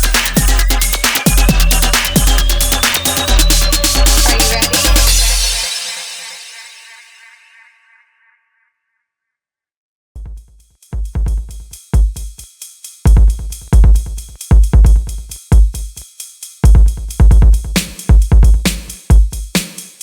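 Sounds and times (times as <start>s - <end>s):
hip-hop drum machine beat: 0.0s - 6.7s, 10.2s - 20.0s.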